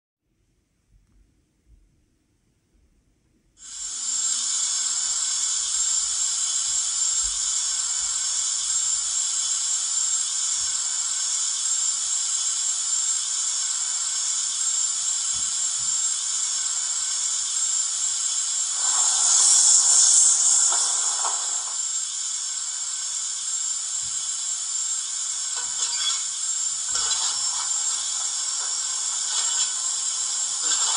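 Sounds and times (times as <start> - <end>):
steam engine hiss from small speaker: 3.6 - 30.9.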